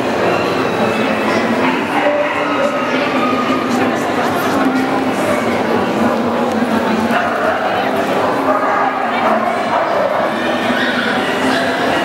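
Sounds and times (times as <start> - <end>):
crowd chatter in hall: 0.0 - 12.0.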